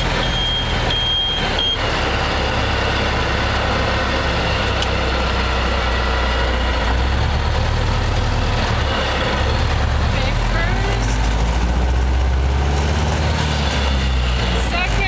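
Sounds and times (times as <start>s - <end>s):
car engine running low: 0.0s - 15.0s
road noise: 0.0s - 15.0s.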